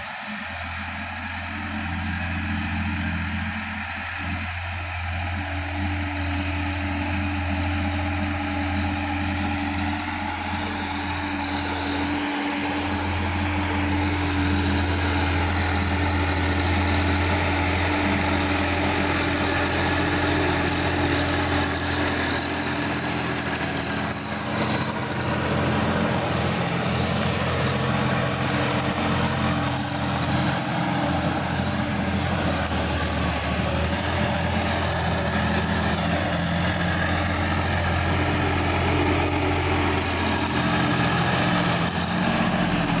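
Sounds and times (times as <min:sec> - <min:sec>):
tractor diesel engine running: 0:00.0 - 0:43.0
rotary tiller churning soil: 0:05.8 - 0:43.0.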